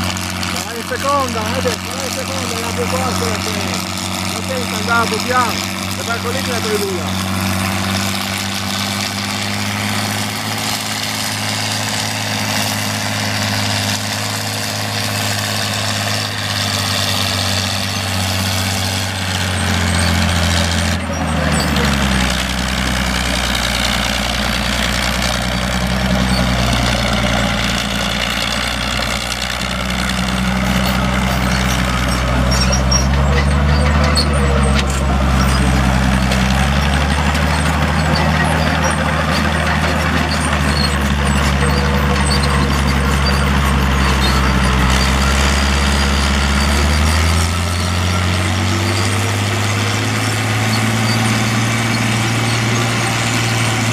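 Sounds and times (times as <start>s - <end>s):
tractor diesel engine under load: 0.0s - 53.9s.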